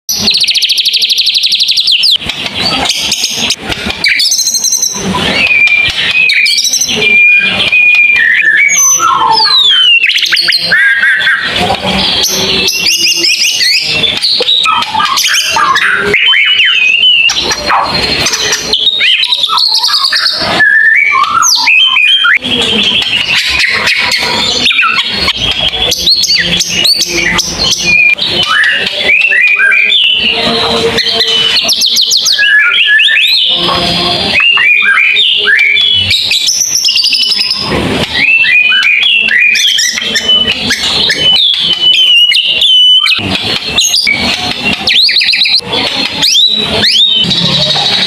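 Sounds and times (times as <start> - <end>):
bird singing whistled notes: 0.1 - 48.0.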